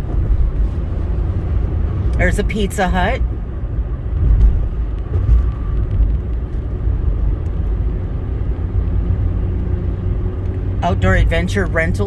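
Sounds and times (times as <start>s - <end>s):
car interior engine and road noise: 0.0s - 12.0s.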